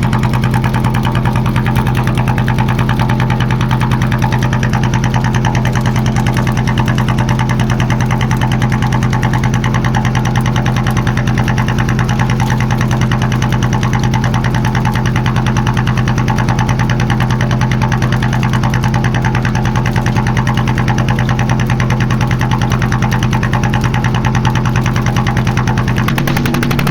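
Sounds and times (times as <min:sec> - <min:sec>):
small boat engine running: 0:00.0 - 0:26.9.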